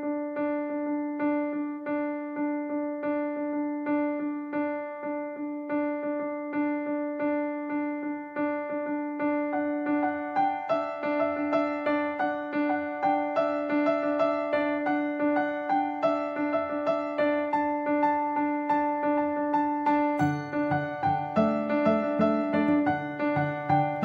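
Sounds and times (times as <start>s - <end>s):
electric piano music: 0.0s - 24.0s.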